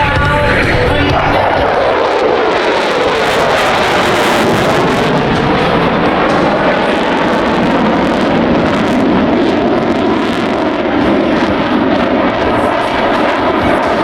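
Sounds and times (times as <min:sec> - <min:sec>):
airplane engine noise: 0:00.0 - 0:14.0.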